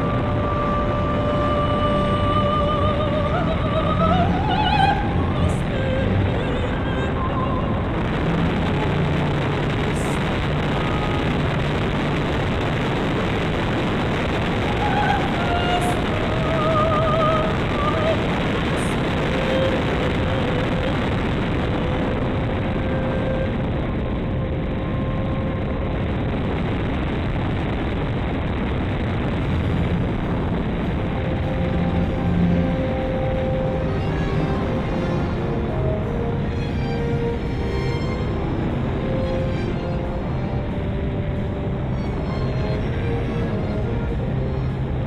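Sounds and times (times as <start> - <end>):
wind rushing: 2.9 - 45.0.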